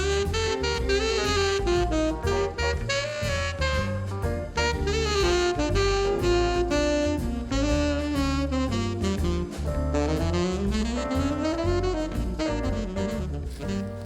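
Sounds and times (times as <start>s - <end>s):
bass: 0.0s - 14.0s
drums: 0.0s - 14.0s
saxophone melody: 0.0s - 14.0s.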